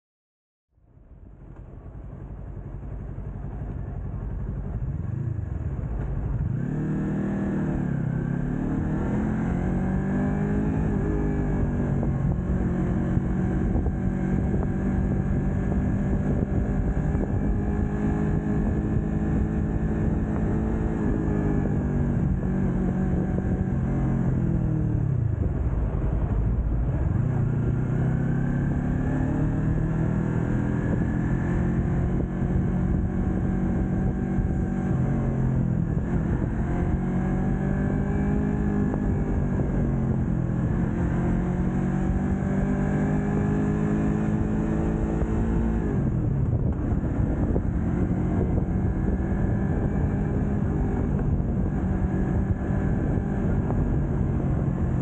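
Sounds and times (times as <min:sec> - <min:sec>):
motorcycle engine accelerating: 0:00.8 - 0:55.0.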